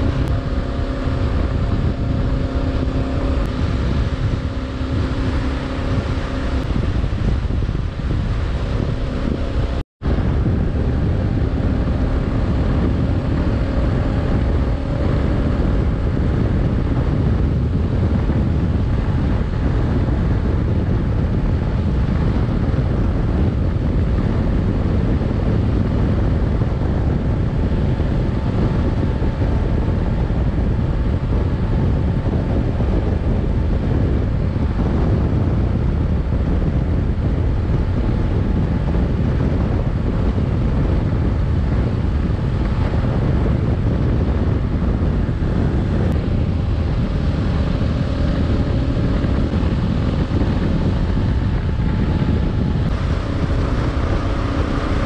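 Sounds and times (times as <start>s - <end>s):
motorcycle engine drone: 0.0s - 55.0s
wind buffeting microphone: 0.0s - 55.0s.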